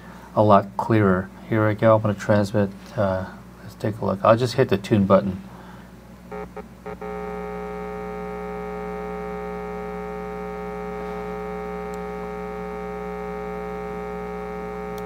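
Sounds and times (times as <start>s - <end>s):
buzzy interference hum from speakers: 0.0s - 15.0s.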